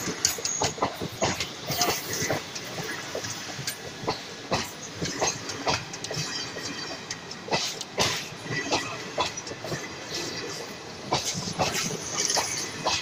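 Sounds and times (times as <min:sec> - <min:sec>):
train rumble: 0:00.0 - 0:13.0
train wheels clacking on rail joints: 0:00.0 - 0:13.0.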